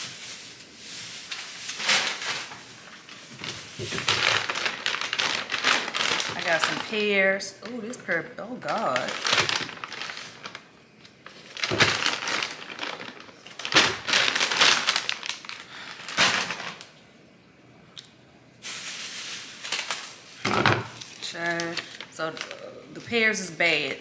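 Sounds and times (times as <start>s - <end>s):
plastic bag crinkling: 0.0s - 17.0s, 18.6s - 24.0s.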